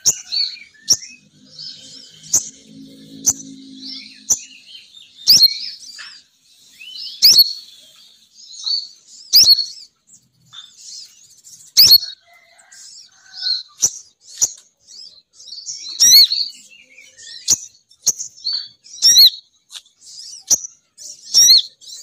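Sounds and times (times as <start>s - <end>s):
high sweeping bird calls: 0.0s - 22.0s
soft bird twittering: 0.0s - 22.0s.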